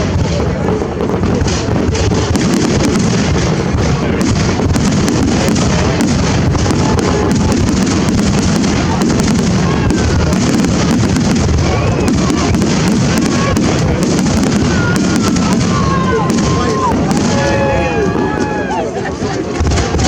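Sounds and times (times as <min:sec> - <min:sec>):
fireworks whistles: 0:00.0 - 0:19.0
fireworks bangs and crackles: 0:00.0 - 0:20.0.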